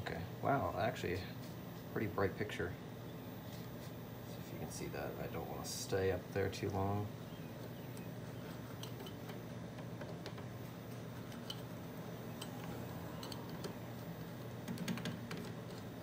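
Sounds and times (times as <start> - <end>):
television speaker low hum: 0.0 - 16.0.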